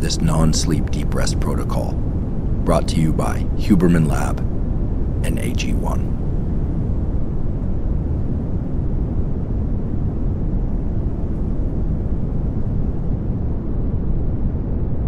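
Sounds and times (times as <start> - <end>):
pink noise hiss: 0.0 - 15.0.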